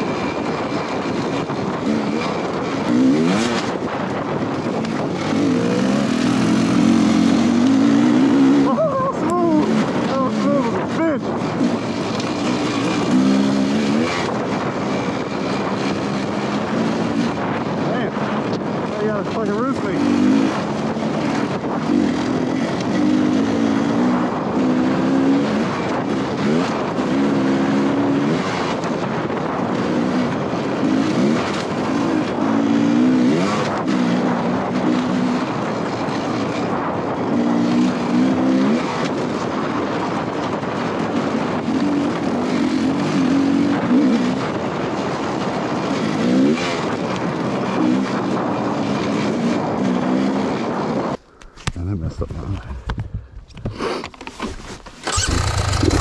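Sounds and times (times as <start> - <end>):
dirt bike engine revving: 0.0 - 51.1, 54.4 - 56.0.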